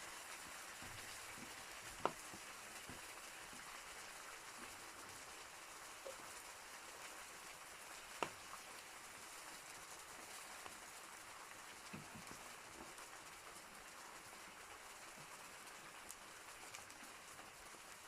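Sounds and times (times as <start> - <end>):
fire crackles: 0.0 - 18.0
wood fire hissing: 0.0 - 18.0.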